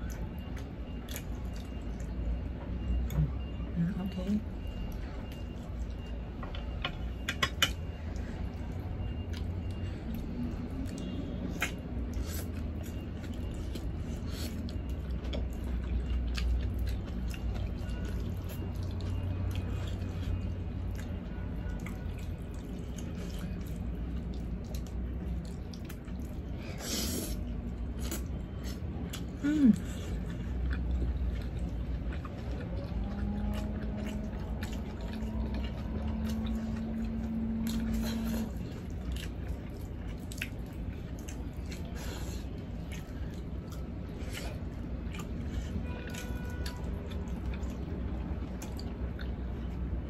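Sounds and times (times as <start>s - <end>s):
wet chewing: 0.0s - 3.8s, 4.4s - 50.0s.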